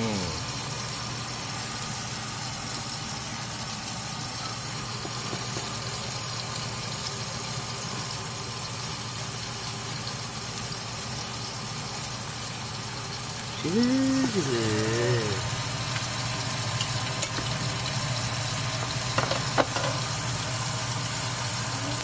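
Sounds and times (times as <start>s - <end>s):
pancakes sizzling in oil: 0.0s - 22.0s.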